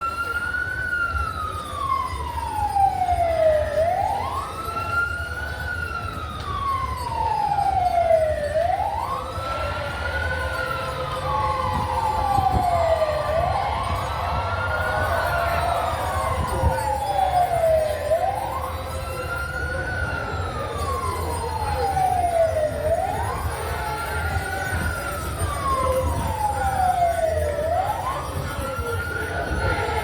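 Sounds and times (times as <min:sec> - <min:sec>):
siren wailing: 0:00.0 - 0:30.0.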